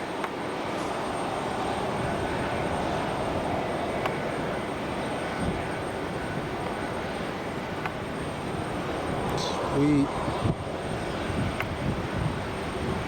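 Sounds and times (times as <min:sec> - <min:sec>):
jet engines landing: 0:00.0 - 0:13.0.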